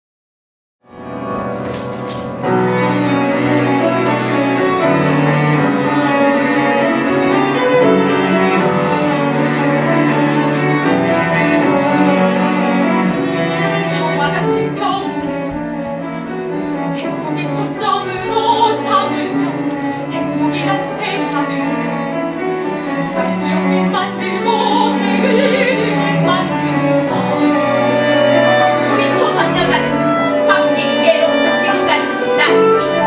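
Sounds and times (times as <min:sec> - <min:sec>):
chamber ensemble playing: 0:00.9 - 0:33.0
cello sustained low notes: 0:02.5 - 0:33.0.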